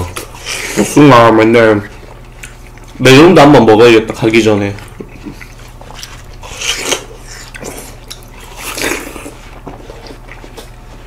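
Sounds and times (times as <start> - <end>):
people chewing watermelon: 0.0 - 11.0.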